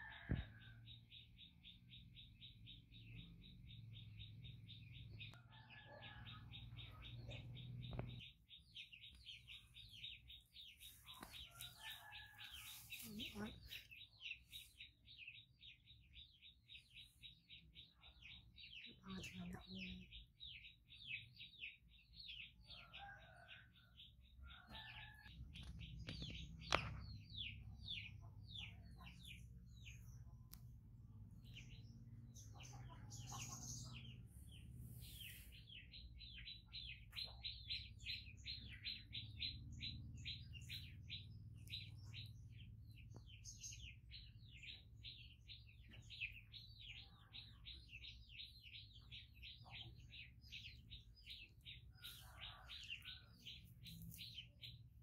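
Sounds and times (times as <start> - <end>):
bird chirping: 0.0 - 23.9, 24.5 - 55.0.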